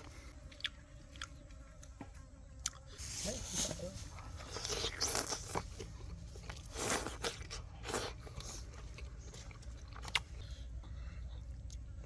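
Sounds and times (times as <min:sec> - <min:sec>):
crunchy chewing of food: 0:00.0 - 0:03.0, 0:04.1 - 0:12.0.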